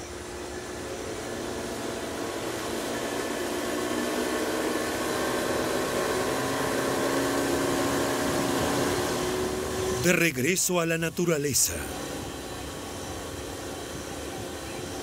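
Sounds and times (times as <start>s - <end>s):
outboard motor humming: 0.0s - 15.0s
water rushing along hull: 0.0s - 15.0s.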